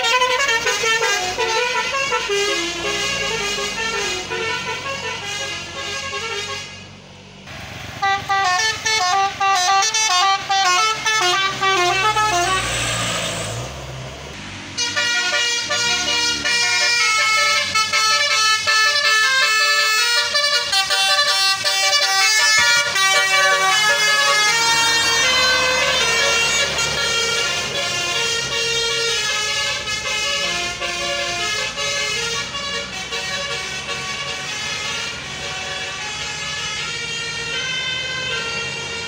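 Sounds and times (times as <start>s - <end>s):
musical bus horn playing tune: 0.0s - 6.9s, 8.0s - 13.4s, 14.7s - 39.0s.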